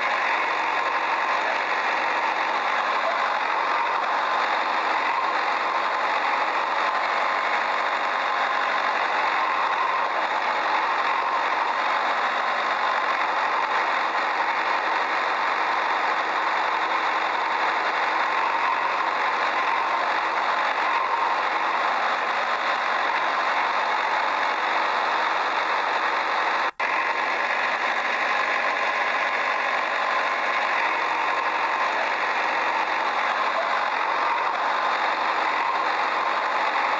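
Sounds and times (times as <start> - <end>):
steady engine running: 0.0 - 36.9.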